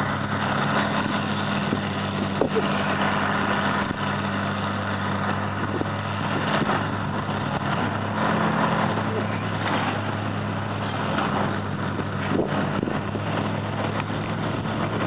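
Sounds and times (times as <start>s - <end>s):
excavator diesel engines running: 0.0s - 15.0s.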